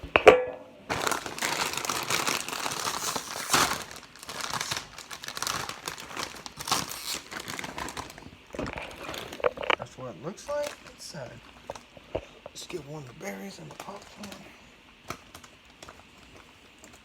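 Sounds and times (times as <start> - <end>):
snack bag crinkling: 0.9 - 9.8, 10.4 - 12.0, 13.6 - 17.0.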